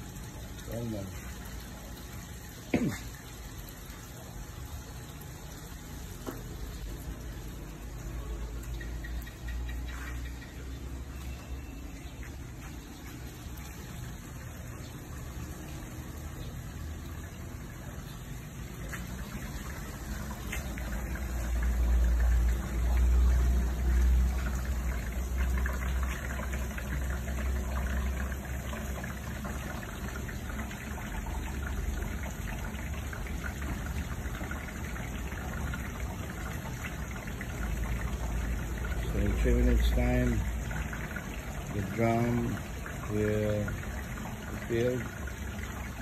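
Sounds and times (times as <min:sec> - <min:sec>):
water gushing into drum: 0:00.0 - 0:46.0.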